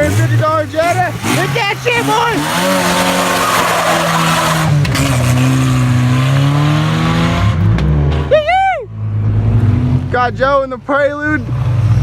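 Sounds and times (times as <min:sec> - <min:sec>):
car engine under heavy throttle: 0:00.0 - 0:12.0
tire and wind noise: 0:00.0 - 0:12.0.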